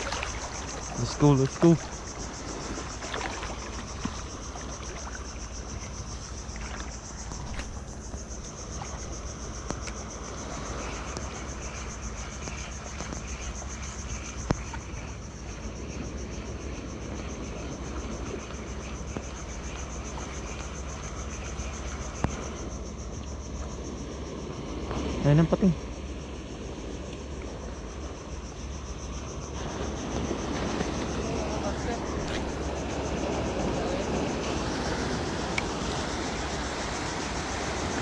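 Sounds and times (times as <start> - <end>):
crickets trilling: 0.0 - 38.0.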